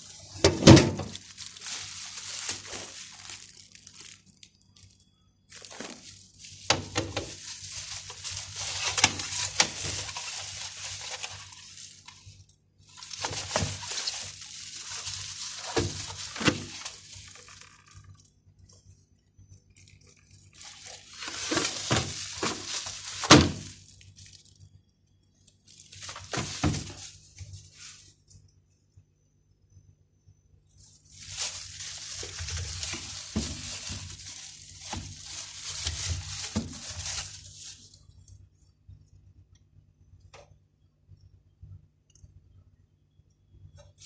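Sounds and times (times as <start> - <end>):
plastic packaging rustling: 0.0 - 18.8, 19.4 - 28.4, 30.8 - 38.4.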